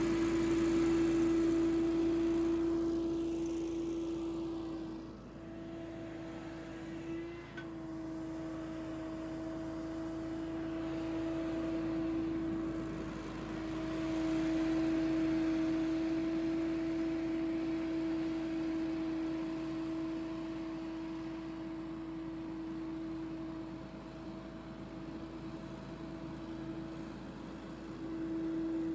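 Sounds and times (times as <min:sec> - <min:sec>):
leaf blower whine and air rush: 0:00.0 - 0:28.9.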